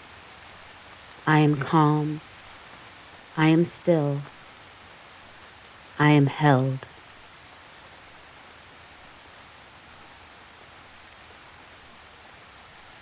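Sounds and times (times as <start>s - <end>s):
gentle rain: 0.0s - 13.0s.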